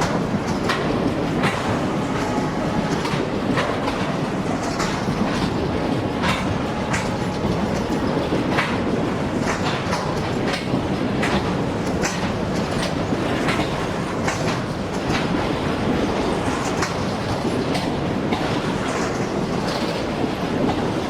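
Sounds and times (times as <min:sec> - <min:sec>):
wheels clicking over rail joints: 0:00.0 - 0:20.9
freight train wagons rumbling: 0:00.0 - 0:21.0.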